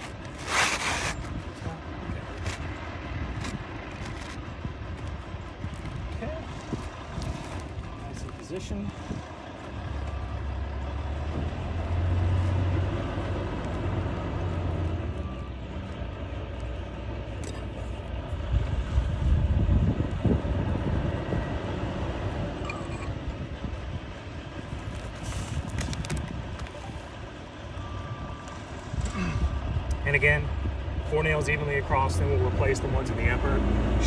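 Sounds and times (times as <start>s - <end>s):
passing motor traffic rumble: 0.0s - 34.0s.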